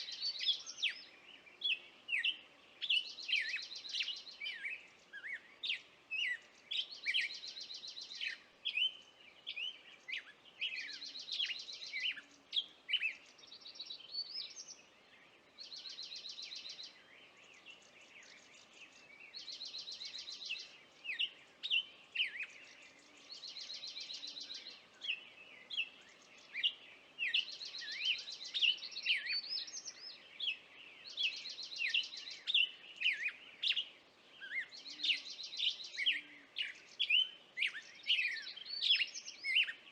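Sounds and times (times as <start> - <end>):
songbird trills: 0.0 - 39.9.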